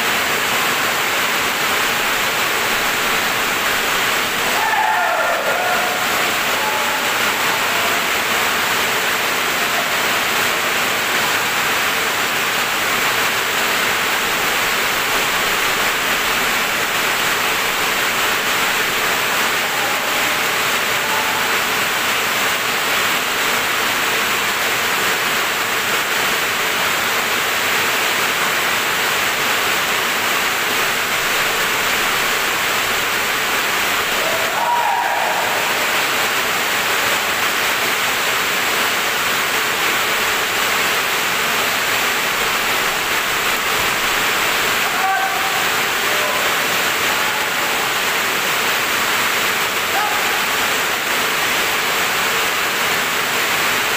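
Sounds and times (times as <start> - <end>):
loud rushing noise: 0.0 - 53.9.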